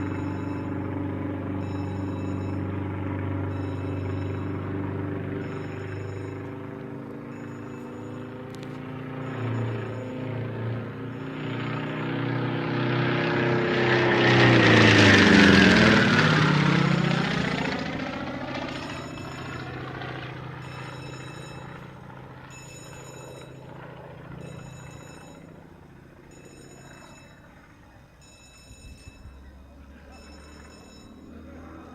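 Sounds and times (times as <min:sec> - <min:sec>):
propeller aircraft flying past: 0:00.0 - 0:31.9.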